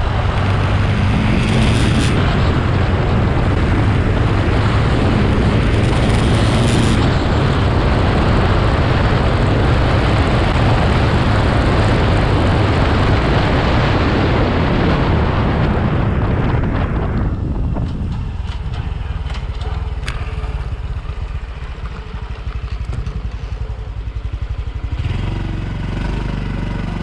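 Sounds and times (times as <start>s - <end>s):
motorcycle engine running: 0.0s - 27.0s
wind noise on microphone: 0.0s - 27.0s.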